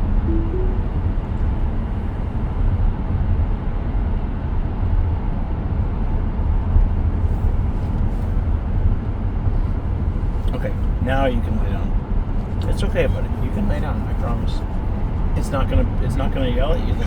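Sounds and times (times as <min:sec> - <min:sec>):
road and tyre rumble in car: 0:01.4 - 0:17.0.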